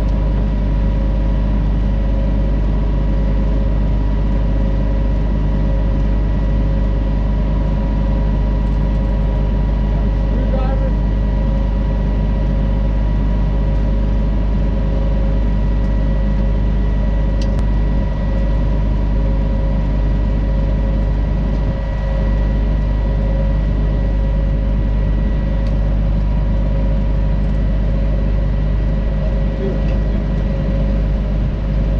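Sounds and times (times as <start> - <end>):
heavy machinery engine rumbling: 0.0 - 31.9
steady whine: 0.0 - 31.9.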